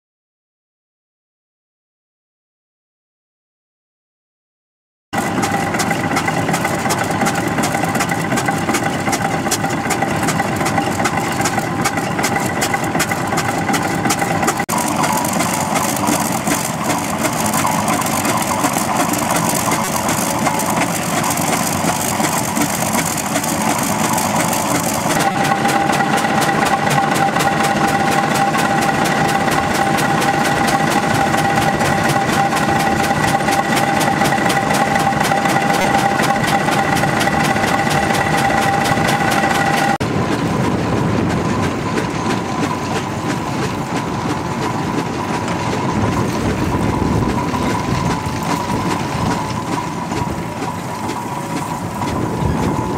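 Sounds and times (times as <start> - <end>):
steady mechanical whine: 5.2 - 52.9
steam engine mechanical clatter: 5.2 - 52.9.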